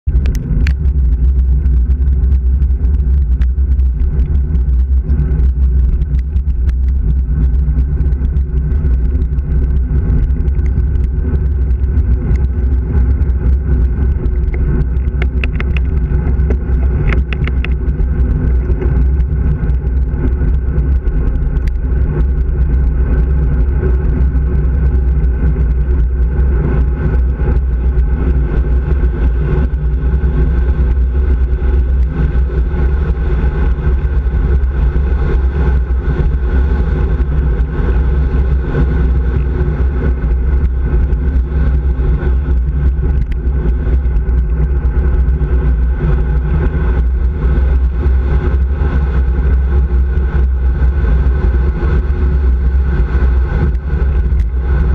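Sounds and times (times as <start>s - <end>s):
bicycle road rumble: 0.0s - 54.9s
wind noise: 0.0s - 54.9s.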